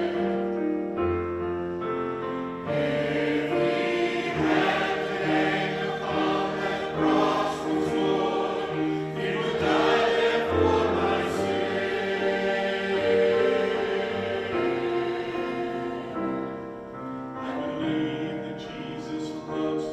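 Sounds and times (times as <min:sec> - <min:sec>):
choir singing gospel song: 0:00.0 - 0:00.5, 0:02.7 - 0:19.9.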